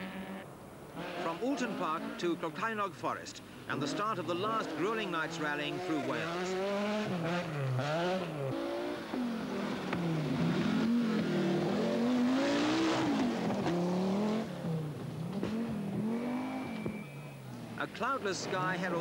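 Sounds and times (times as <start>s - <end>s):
rally car engines revving: 0.0s - 2.9s, 3.7s - 19.0s.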